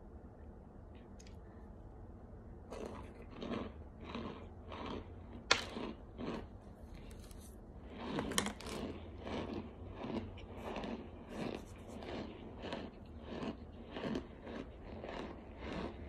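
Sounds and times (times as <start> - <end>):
crunchy chewing: 2.7 - 16.0.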